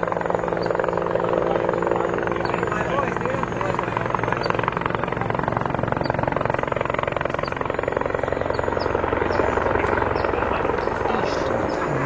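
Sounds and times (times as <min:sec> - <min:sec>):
helicopter rotor chop: 0:00.0 - 0:12.0.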